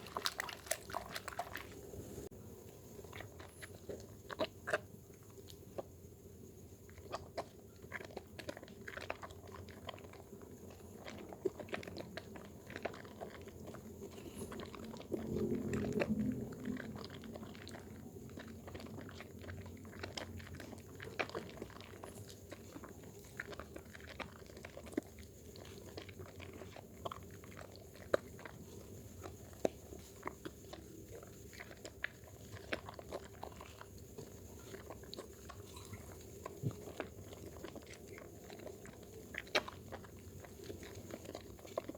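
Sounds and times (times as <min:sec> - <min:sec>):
soap lathering wet squishes: 0:00.0 - 0:02.3, 0:07.0 - 0:41.9.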